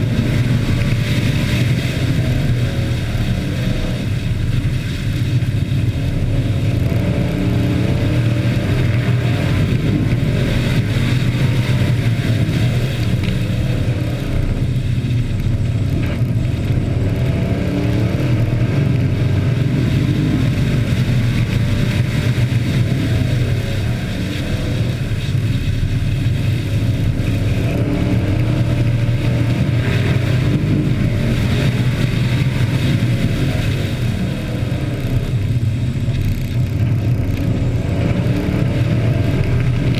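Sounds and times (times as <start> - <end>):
race truck engines running hard: 0.0 - 39.9.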